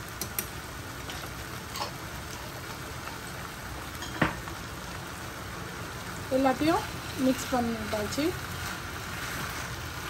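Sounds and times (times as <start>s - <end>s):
meat frying in a pan: 0.0s - 10.0s.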